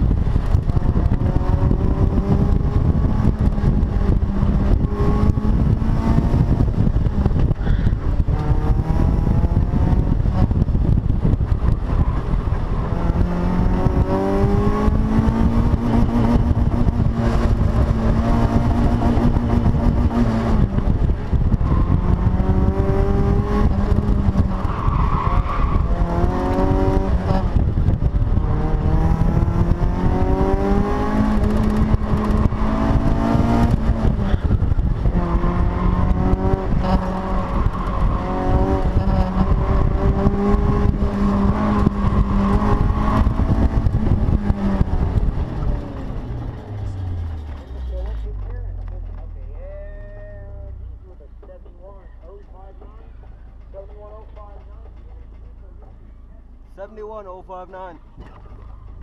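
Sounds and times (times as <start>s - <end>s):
car engine revving: 0.0s - 56.0s
wind and road noise: 0.0s - 59.0s.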